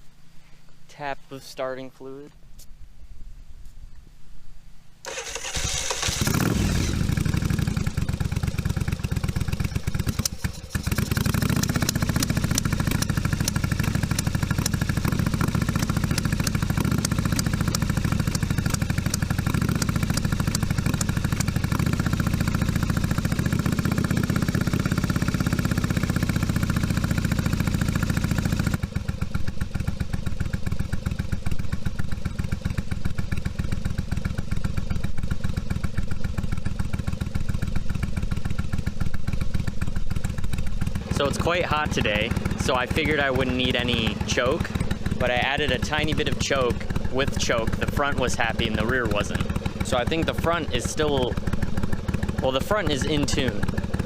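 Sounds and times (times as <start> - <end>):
motorcycle engine running: 5.1 - 54.0.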